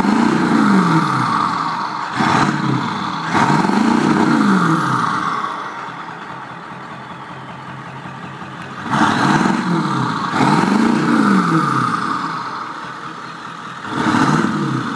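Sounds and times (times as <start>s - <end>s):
diesel engine revving: 0.0s - 14.9s.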